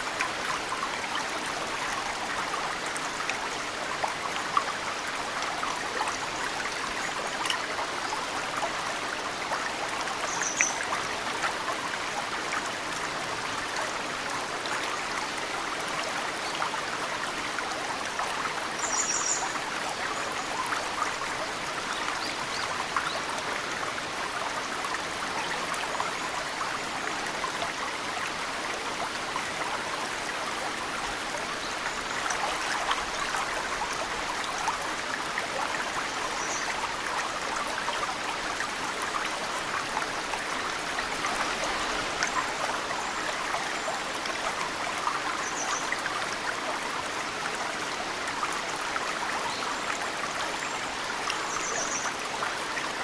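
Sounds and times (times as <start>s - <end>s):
mountain stream flowing: 0.0s - 53.0s.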